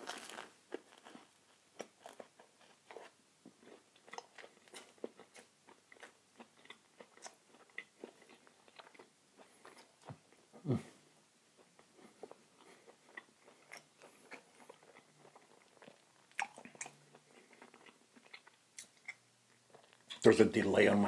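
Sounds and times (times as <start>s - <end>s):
person chewing food: 0.0s - 20.2s.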